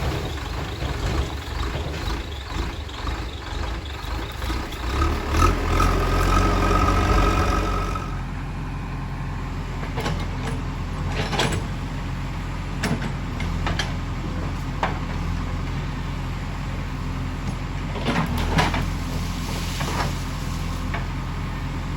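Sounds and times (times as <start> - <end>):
diesel engine running with whine: 0.0 - 21.9.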